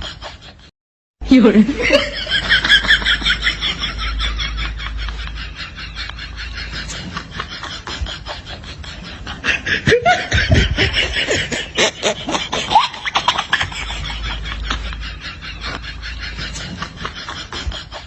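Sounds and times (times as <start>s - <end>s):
person laughing: 1.5s - 18.0s.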